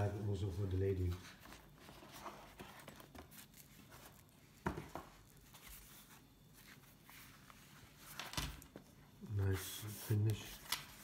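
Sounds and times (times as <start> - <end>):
rustling and handling noise: 0.0 - 11.0.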